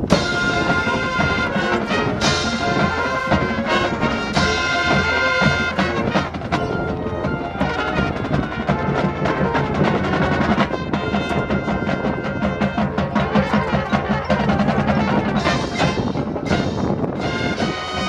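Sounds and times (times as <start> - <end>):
marching band playing: 0.0 - 18.0
rapid drum strokes: 0.0 - 18.0.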